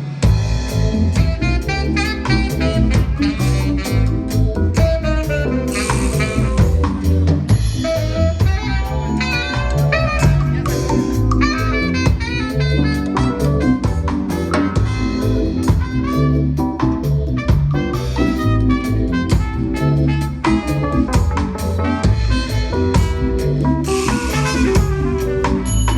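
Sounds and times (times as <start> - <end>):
live band playing: 0.0 - 25.9.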